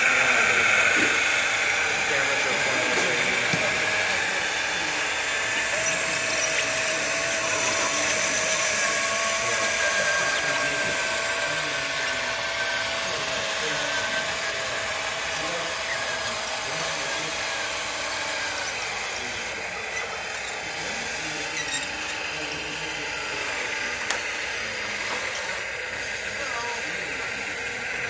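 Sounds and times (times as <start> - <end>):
toy excavator motor whining: 0.0 - 28.0.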